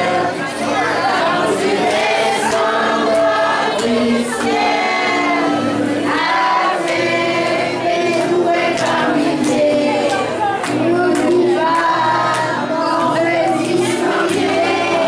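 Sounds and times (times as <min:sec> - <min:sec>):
voices singing nursery rhyme: 0:00.0 - 0:15.0.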